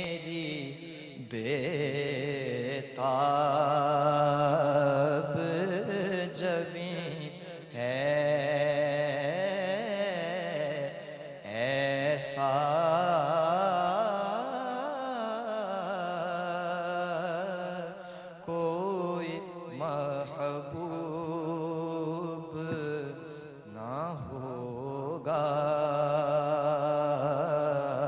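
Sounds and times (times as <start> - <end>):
man singing devotional song: 0.0 - 28.0.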